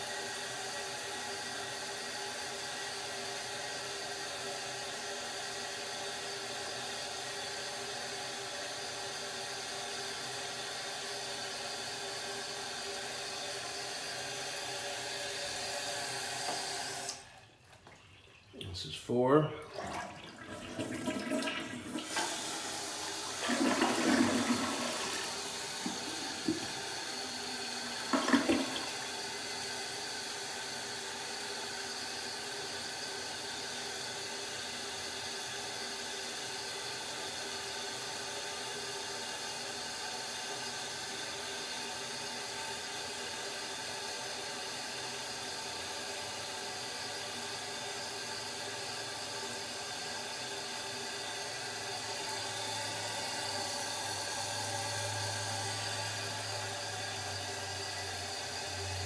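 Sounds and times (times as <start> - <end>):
toilet flushing: 0.0 - 59.0
toilet tank refilling: 8.3 - 59.0.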